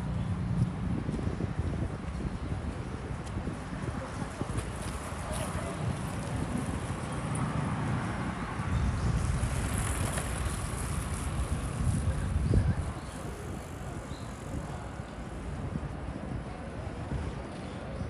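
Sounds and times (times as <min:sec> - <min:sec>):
traffic rumble: 0:00.0 - 0:18.0
wind on microphone: 0:00.0 - 0:18.0.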